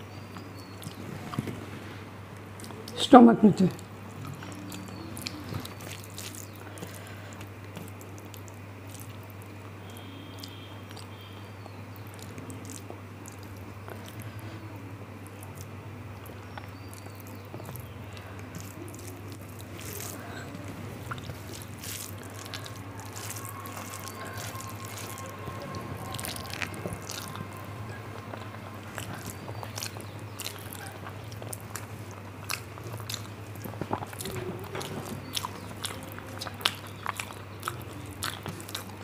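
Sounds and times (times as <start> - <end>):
chewing with wet clicks: 0.0 - 1.6, 2.4 - 3.0, 3.7 - 39.0
steady low hum: 0.0 - 39.0.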